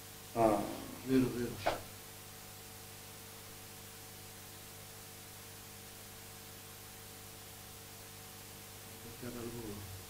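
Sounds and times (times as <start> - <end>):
faint steady hum and hiss: 0.0 - 10.0.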